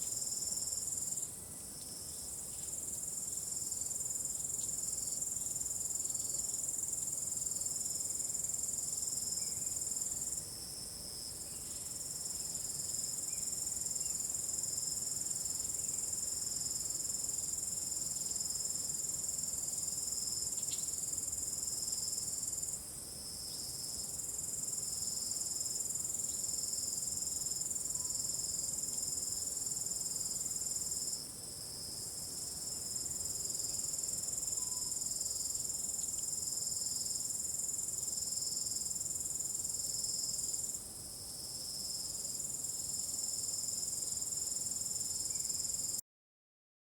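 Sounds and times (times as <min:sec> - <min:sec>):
field crickets chirping: 0:00.0 - 0:46.0.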